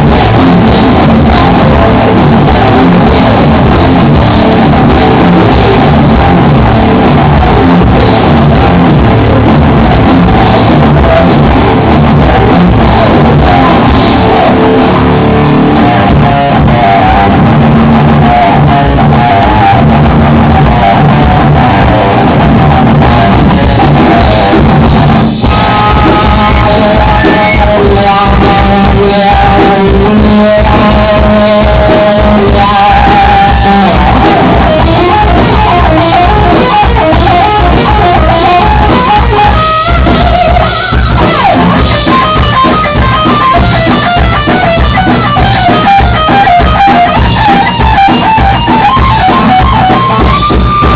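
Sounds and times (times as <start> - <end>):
distorted electric guitar: 0.0 - 50.9
drum kit playing: 0.0 - 50.9
person singing: 0.0 - 50.9.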